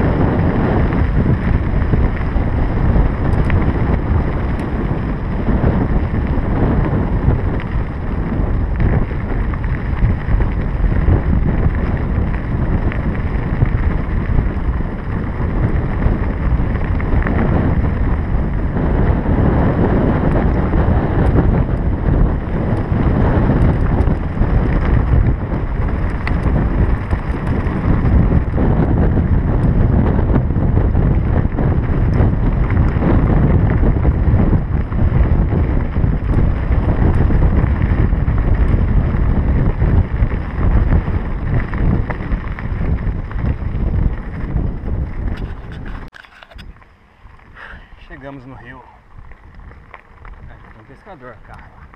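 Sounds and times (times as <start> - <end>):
tyres crackling over gravel: 0.0 - 29.8, 30.7 - 51.9
wind buffeting microphone: 0.0 - 51.9.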